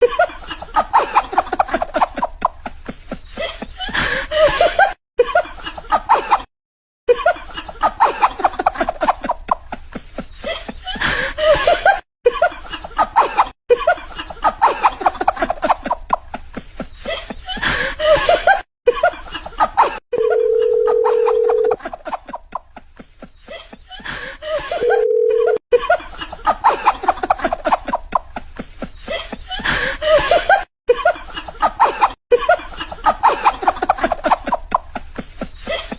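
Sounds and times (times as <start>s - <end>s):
bursts of laughter: 0.1s - 6.5s, 7.1s - 24.9s, 25.8s - 35.9s.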